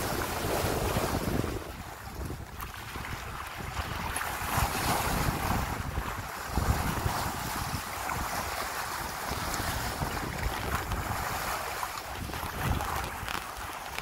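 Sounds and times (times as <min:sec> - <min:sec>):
water rushing along hull: 0:00.0 - 0:14.0
wind buffeting microphone: 0:00.0 - 0:14.0.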